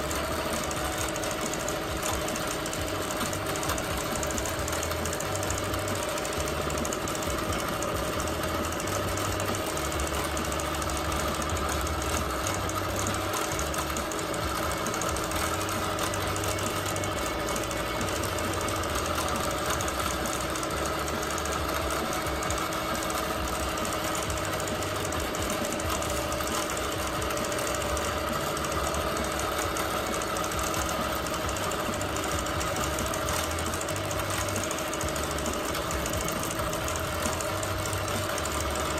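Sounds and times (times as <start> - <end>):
low motor hum: 0.0 - 38.9
sewing machine needle chatter: 0.0 - 38.9.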